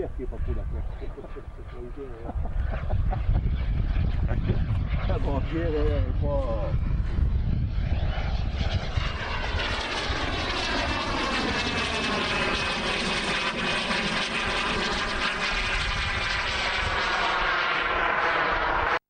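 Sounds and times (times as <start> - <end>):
aircraft engine droning: 0.0 - 19.0
wind rumble on microphone: 0.0 - 19.0.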